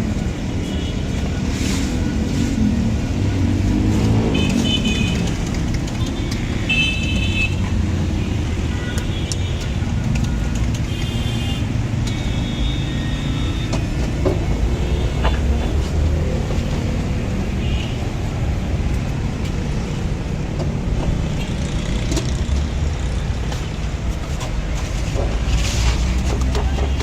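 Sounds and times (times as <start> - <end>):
road traffic rumbling: 0.0 - 27.0.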